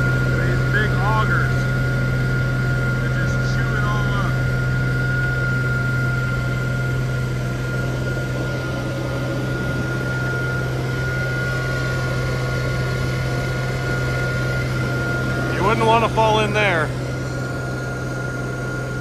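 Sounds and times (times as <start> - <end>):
machine drone with high whine: 0.0 - 19.0.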